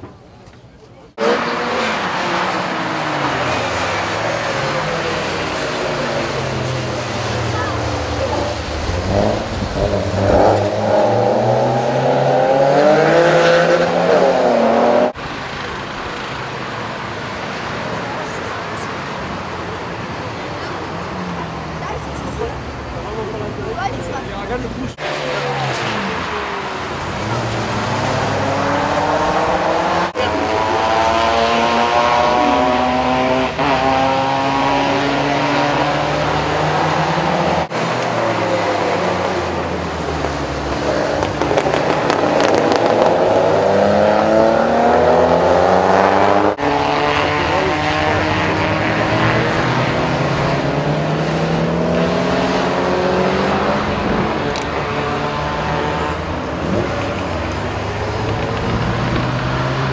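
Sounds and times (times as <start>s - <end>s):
car engines revving: 0.0s - 59.9s
road and spray noise: 0.0s - 59.9s.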